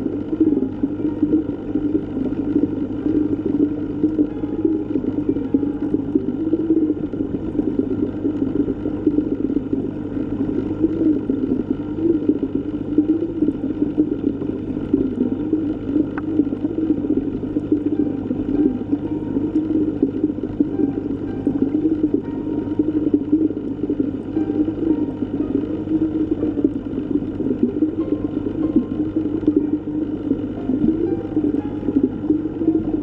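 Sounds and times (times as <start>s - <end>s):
muffled underwater water rushing: 0.0s - 33.0s.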